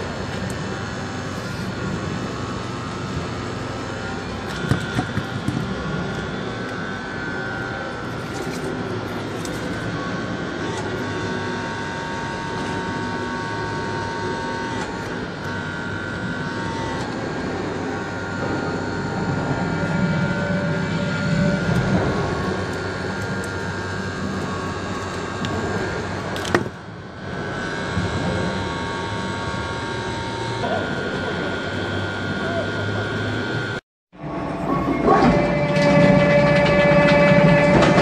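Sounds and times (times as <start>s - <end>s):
hydraulic pump motor droning: 0.0s - 38.0s.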